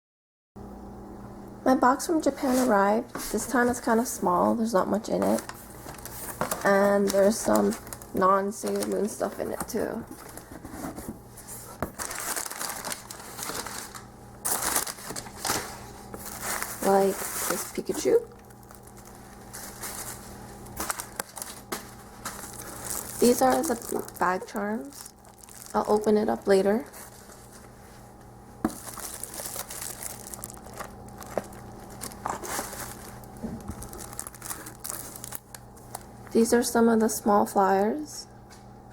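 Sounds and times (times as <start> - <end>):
packaging crinkling and rustling: 2.3 - 36.4.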